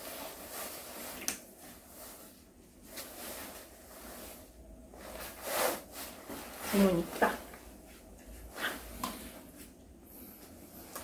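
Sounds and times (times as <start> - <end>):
nylon coat rustling: 0.0 - 9.6.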